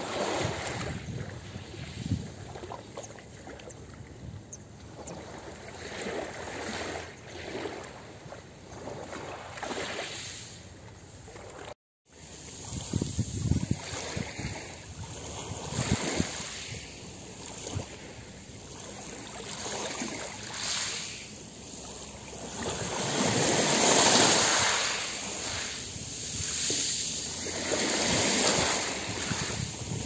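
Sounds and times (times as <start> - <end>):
sea waves lapping on shore: 0.0 - 30.0.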